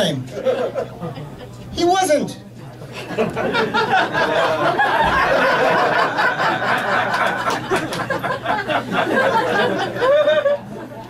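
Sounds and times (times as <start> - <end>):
audience laughing: 0.3 - 1.7, 2.8 - 11.0.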